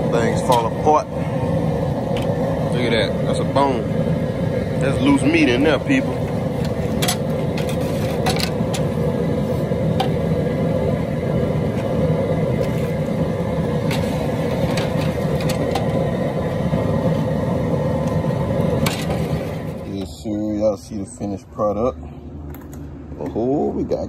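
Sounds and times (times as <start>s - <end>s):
propane burner running: 0.0s - 24.0s.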